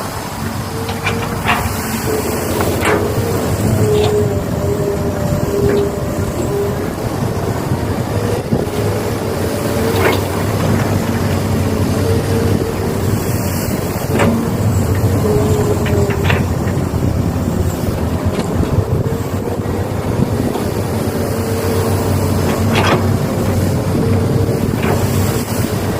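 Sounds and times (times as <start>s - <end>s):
motor whine: 0.0s - 25.9s
steady mechanical hum: 0.0s - 25.9s.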